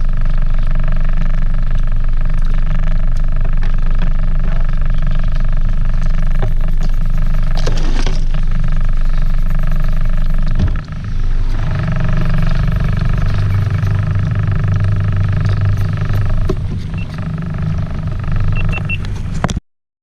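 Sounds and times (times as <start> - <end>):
boat engine running: 0.0 - 19.6.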